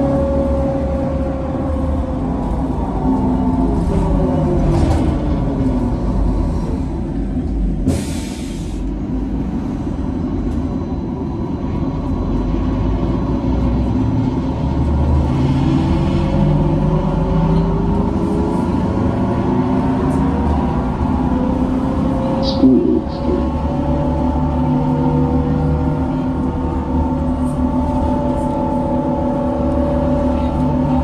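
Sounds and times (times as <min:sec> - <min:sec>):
road rumble: 0:00.0 - 0:31.0.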